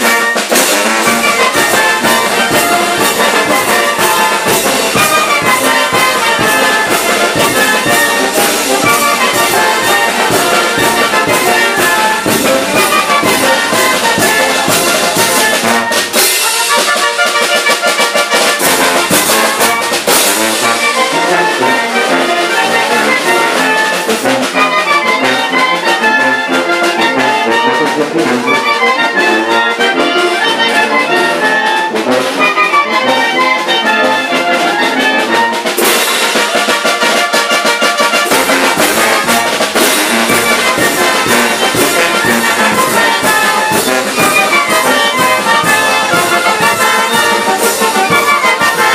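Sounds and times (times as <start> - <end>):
drum and cymbal beat: 0.0 - 48.9
wind band playing dance music: 0.0 - 48.9.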